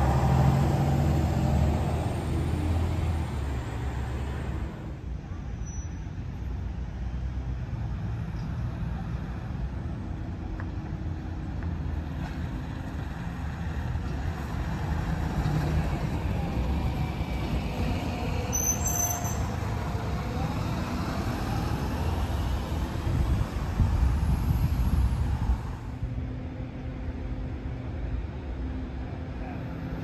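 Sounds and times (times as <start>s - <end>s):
bus engine rumbling: 0.0s - 30.0s.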